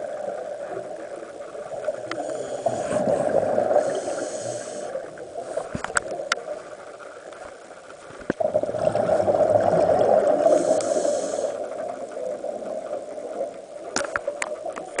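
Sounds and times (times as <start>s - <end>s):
regulator bubbles rushing underwater: 0.0s - 15.0s.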